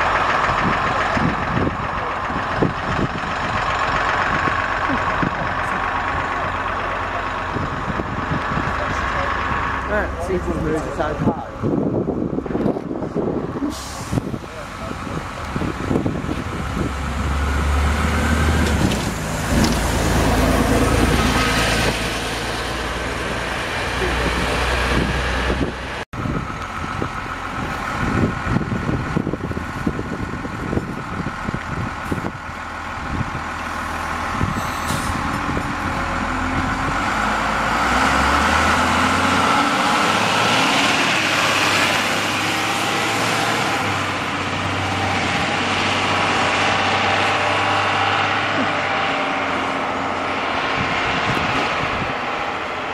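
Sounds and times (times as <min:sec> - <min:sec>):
bus diesel engines accelerating: 0:00.0 - 0:52.9.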